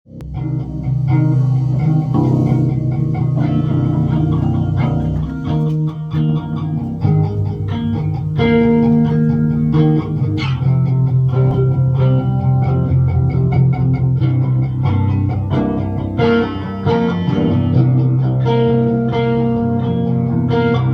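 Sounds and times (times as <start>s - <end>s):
bass guitar line: 0.1s - 20.9s
electric guitar: 0.1s - 20.9s.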